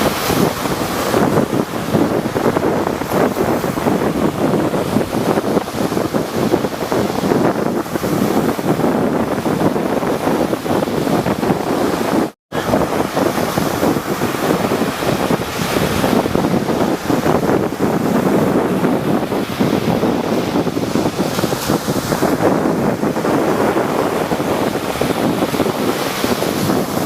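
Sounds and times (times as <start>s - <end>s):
sea surf breaking: 0.0s - 27.0s
wind buffeting microphone: 0.0s - 27.0s.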